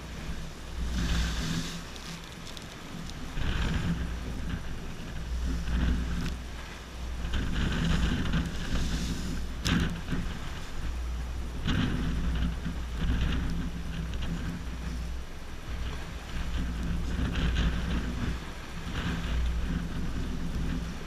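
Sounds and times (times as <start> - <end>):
waves breaking over rocks: 0.0 - 21.0
wind buffeting microphone: 0.0 - 21.0.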